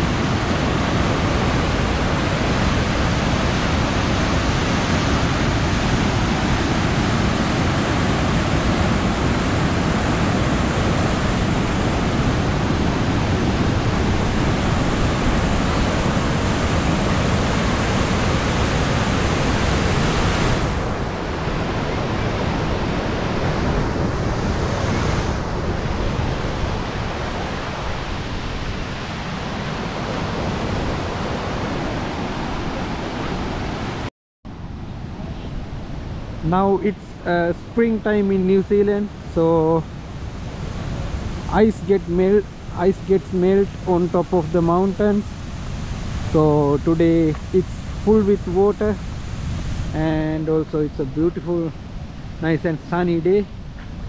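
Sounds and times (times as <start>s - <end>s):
water rushing loudly: 0.0s - 53.7s.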